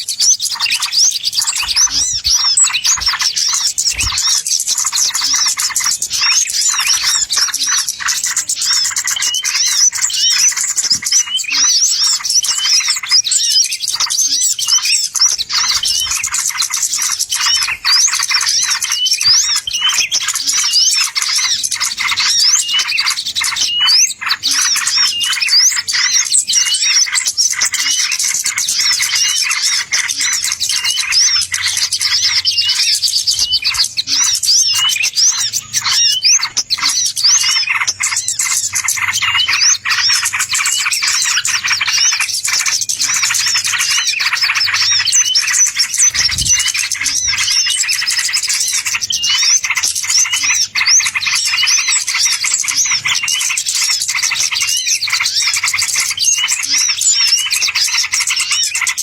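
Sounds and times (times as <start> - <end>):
birdsong chirps and whistles: 0.0 - 59.0.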